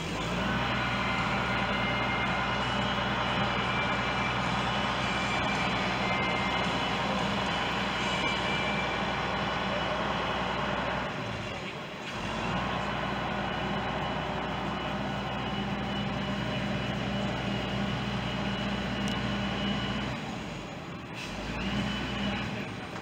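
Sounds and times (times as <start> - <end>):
truck engine and hydraulics humming: 0.0 - 23.0.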